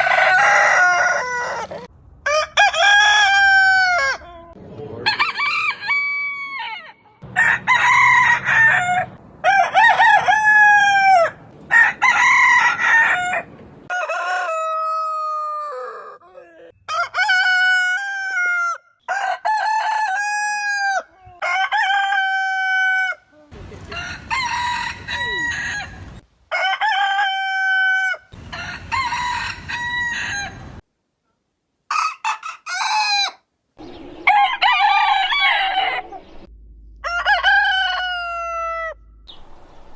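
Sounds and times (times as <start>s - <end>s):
roosters crowing: 0.0s - 30.8s, 31.9s - 39.3s.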